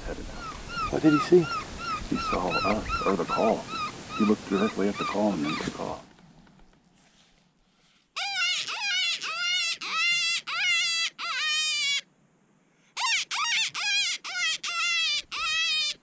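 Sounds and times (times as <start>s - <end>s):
predator call wailing cries: 0.0s - 6.0s, 8.2s - 12.1s, 13.0s - 16.0s.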